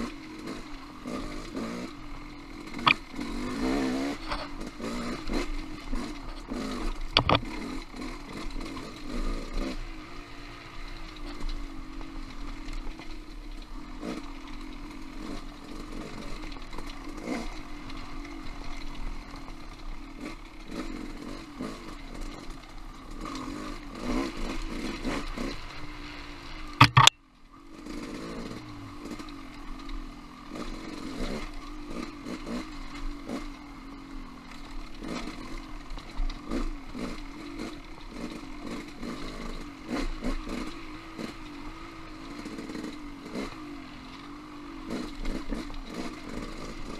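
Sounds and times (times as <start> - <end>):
off-road motorcycle engine: 0.0 - 46.9.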